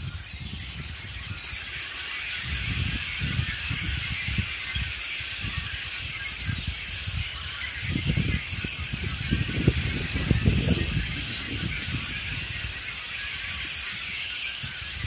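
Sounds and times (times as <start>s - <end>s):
flock of birds chattering: 0.0s - 15.0s.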